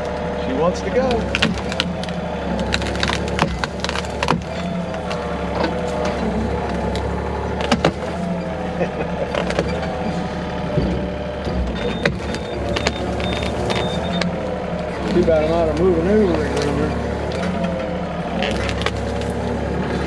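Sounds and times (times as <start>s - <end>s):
excavator engine under load: 0.0s - 20.0s
hydraulics whining: 0.0s - 20.0s
sharp cracks and knocks: 1.0s - 8.4s, 9.3s - 10.0s, 10.7s - 20.0s.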